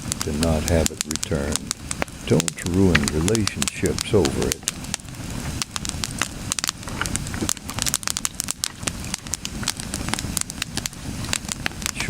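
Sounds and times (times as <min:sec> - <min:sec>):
fire crackling and popping: 0:00.0 - 0:12.0
low rumble of flame: 0:00.0 - 0:12.0.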